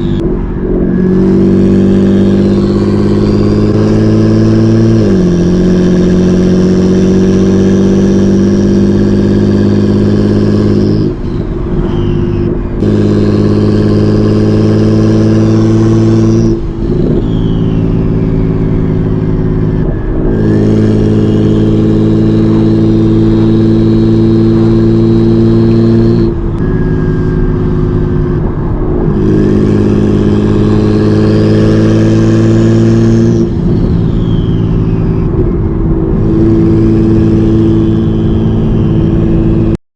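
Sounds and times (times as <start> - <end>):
car engine pulling: 0.0 - 39.8
high turbo whine: 0.0 - 39.8.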